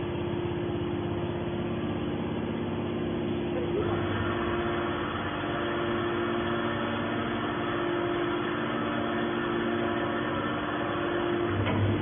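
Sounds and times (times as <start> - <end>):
baler motor and pump humming: 0.0 - 12.0.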